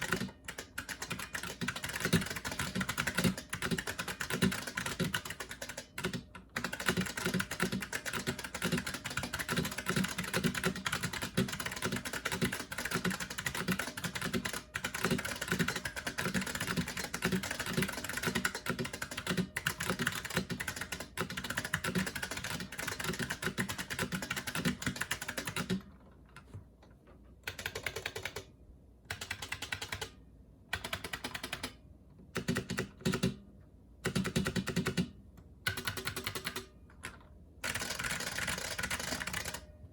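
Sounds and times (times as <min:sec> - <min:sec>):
clicky keyboard typing: 0:00.0 - 0:26.6, 0:27.4 - 0:28.5, 0:29.1 - 0:31.8, 0:32.4 - 0:33.4, 0:34.0 - 0:35.1, 0:35.7 - 0:39.6.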